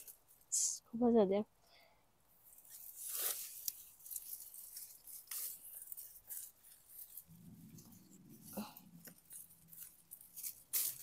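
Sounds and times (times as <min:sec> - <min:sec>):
foliage rustling and crackling: 0:00.0 - 0:00.6, 0:02.3 - 0:11.0.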